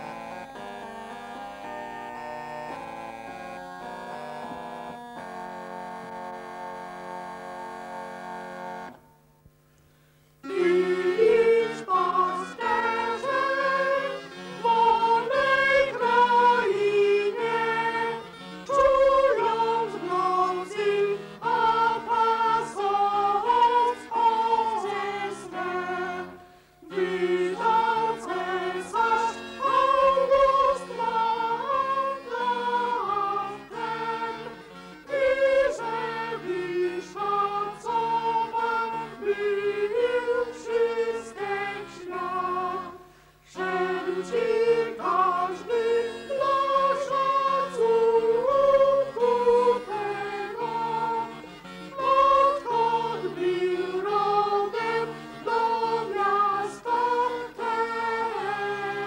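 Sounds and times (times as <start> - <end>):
ensemble singing a carol: 0.0 - 59.0
pipe organ chord: 0.0 - 59.0.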